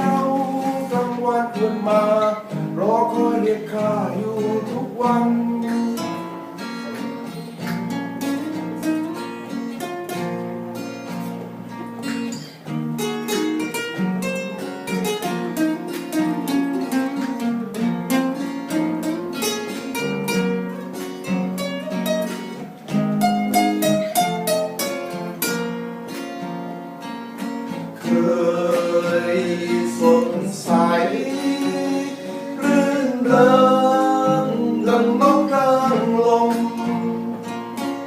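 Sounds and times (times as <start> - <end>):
plucked string melody: 0.0 - 38.0
strummed chords: 0.0 - 38.0.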